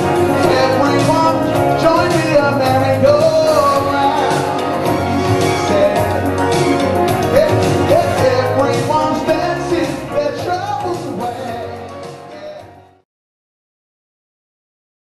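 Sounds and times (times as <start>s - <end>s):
band music: 0.0s - 13.0s
man singing: 0.0s - 13.0s.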